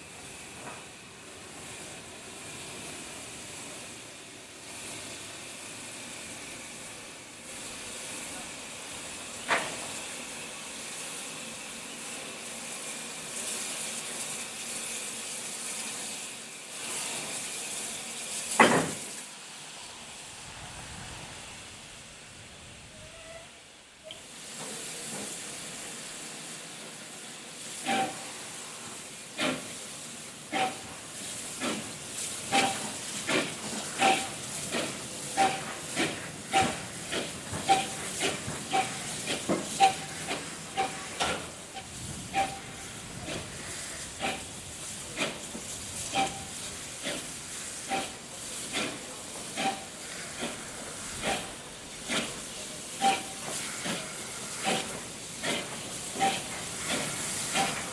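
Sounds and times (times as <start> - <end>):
steam hissing: 0.0 - 57.9
steam locomotive exhaust beats: 0.0 - 57.9.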